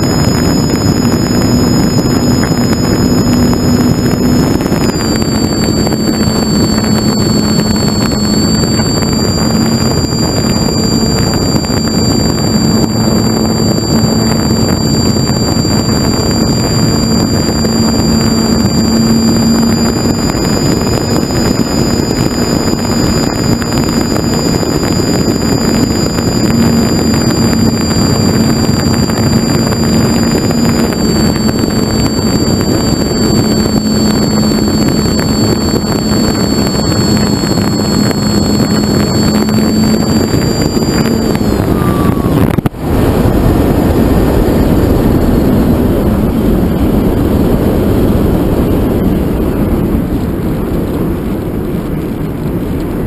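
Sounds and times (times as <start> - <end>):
rushing air: 0.0 - 51.7
propeller aircraft engine drone: 0.0 - 53.0
thin high whine: 0.0 - 53.0.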